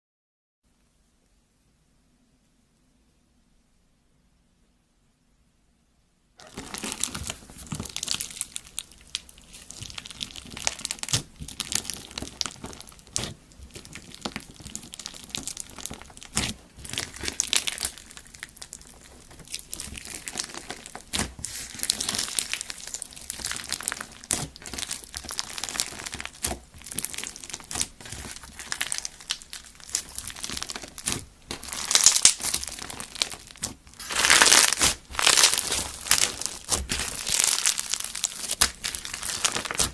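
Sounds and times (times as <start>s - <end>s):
slime crackling and popping: 6.4s - 39.9s.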